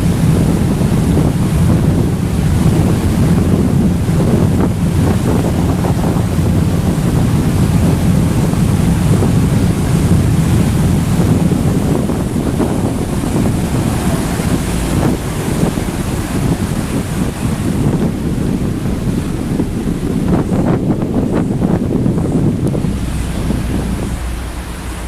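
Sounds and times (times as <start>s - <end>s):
ferry engine low rumble: 0.0s - 25.0s
water washing past hull: 0.0s - 25.0s
wind buffeting microphone: 0.0s - 25.0s.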